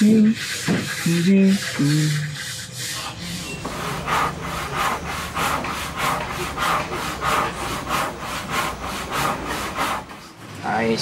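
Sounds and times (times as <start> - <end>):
rhythmic rasping strokes: 0.0 - 10.4.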